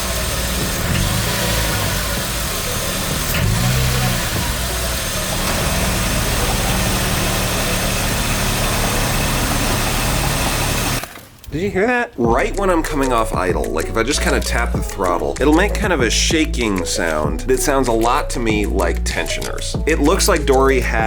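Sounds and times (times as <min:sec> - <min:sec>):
engine rattling: 0:00.0 - 0:11.5, 0:12.2 - 0:21.0
car engine idling: 0:00.0 - 0:21.0.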